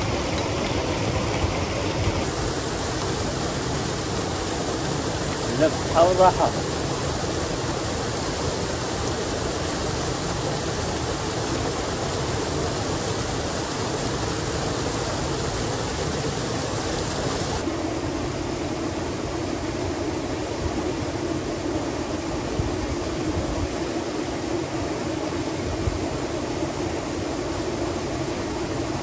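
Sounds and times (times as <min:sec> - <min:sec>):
stream water flowing: 0:00.0 - 0:29.0.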